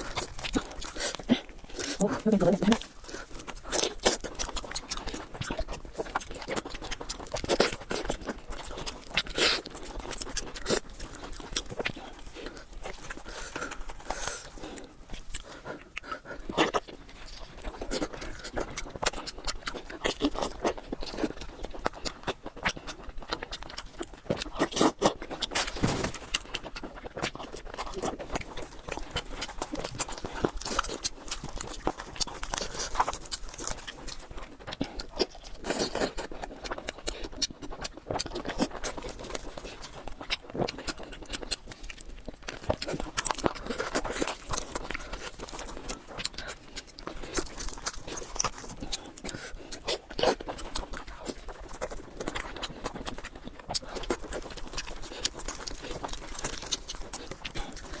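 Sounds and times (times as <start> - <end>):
person chewing with mouth clicks: 0.0 - 58.0.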